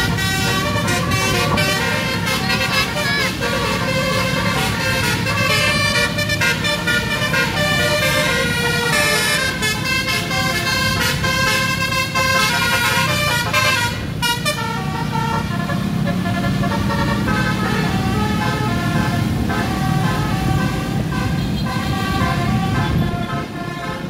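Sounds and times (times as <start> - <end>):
motorcycle engines and road noise: 0.0 - 24.0
musical bus horn playing a tune: 0.0 - 24.0.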